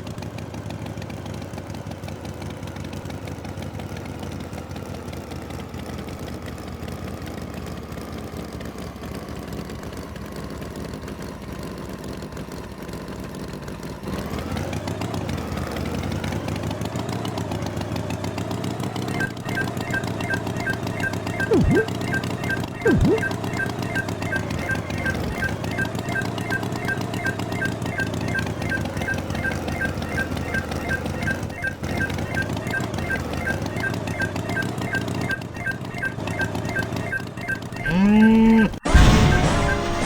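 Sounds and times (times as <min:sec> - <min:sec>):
engine idling and revving: 0:00.0 - 0:40.0.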